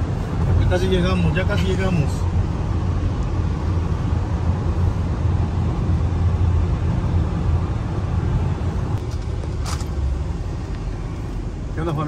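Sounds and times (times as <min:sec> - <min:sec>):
car road rumble from inside: 0:00.0 - 0:12.0.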